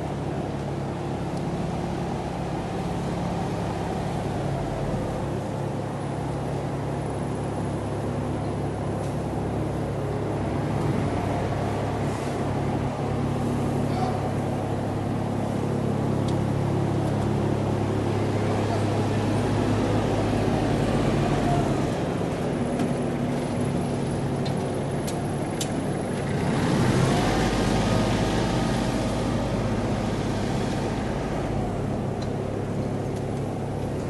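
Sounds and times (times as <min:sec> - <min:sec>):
low mechanical drone: 0:00.0 - 0:34.0.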